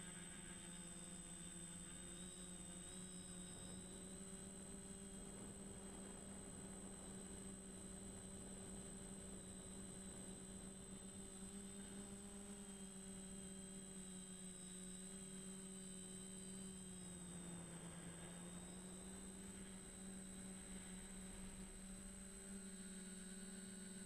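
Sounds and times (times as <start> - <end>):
quadcopter motors humming: 0.0 - 24.0.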